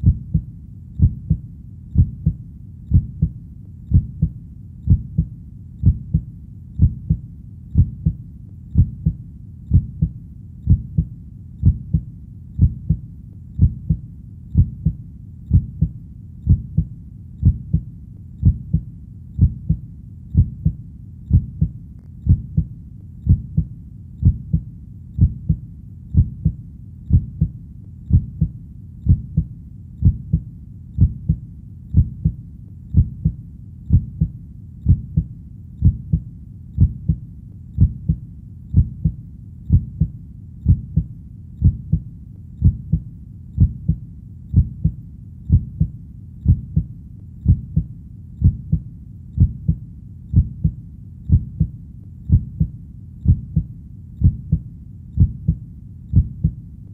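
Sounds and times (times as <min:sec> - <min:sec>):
heartbeat thuds: 0:00.0 - 0:37.2, 0:37.8 - 0:56.6
faint low background: 0:00.0 - 0:56.9.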